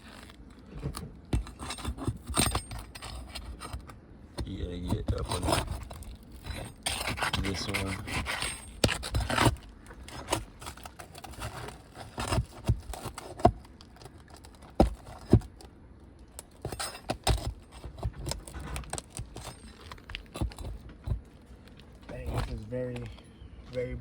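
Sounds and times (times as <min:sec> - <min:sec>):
pry bar scraping shingles: 0:00.0 - 0:23.2.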